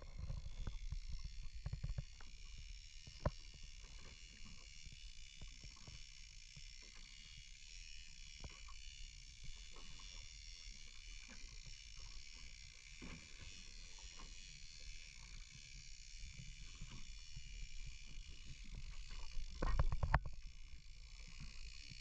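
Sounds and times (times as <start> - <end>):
wind and water against hull: 0.0 - 22.0.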